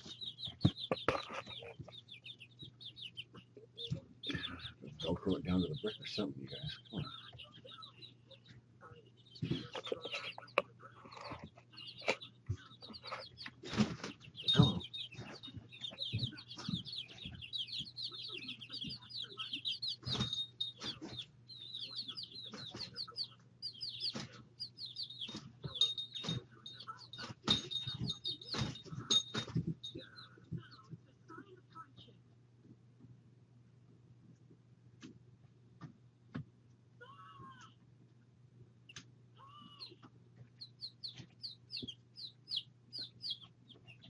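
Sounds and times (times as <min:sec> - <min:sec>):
baby chicks peeping: 0:00.0 - 0:44.0.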